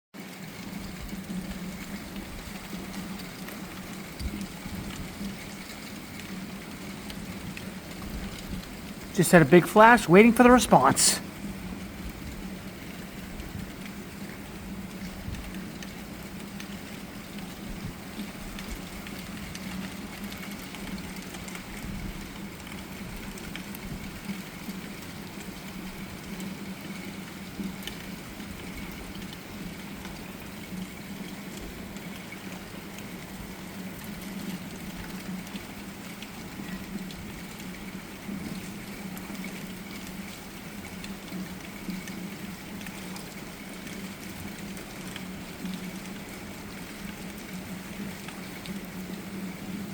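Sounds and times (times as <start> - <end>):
steady rain falling: 0.2 - 49.9.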